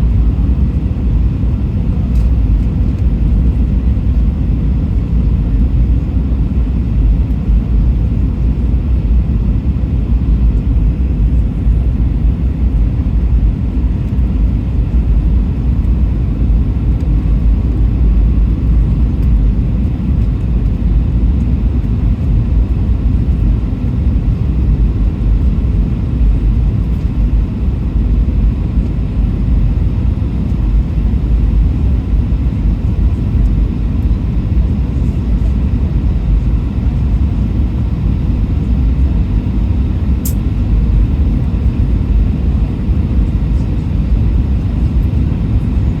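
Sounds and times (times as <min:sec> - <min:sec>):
airplane cabin engine roar: 0:00.0 - 0:46.0.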